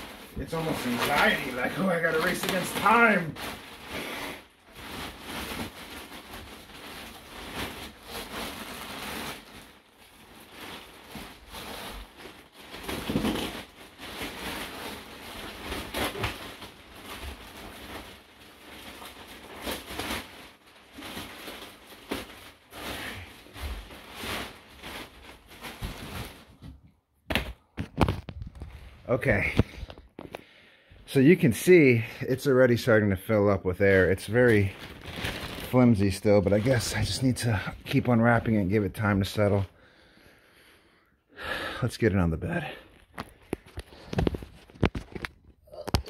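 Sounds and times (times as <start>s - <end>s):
plastic wrapping crinkling: 0.0s - 40.7s, 42.6s - 46.0s.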